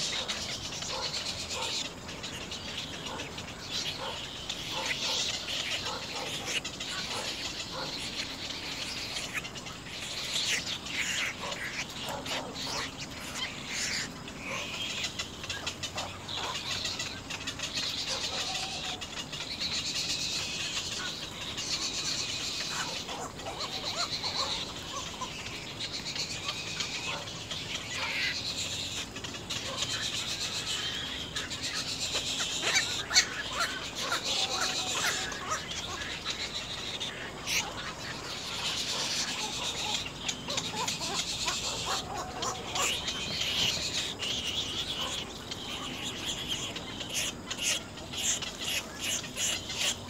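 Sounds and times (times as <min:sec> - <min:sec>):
bird nestlings begging: 0:00.0 - 0:50.0.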